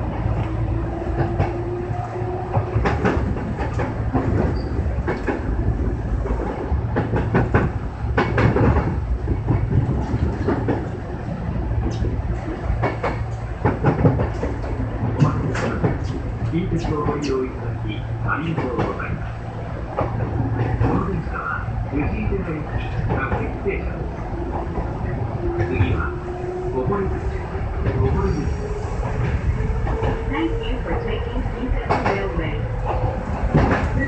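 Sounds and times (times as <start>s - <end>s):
train rumble and motor whine: 0.0s - 34.0s
wheels clacking over rail joints: 0.1s - 17.3s, 22.7s - 34.0s.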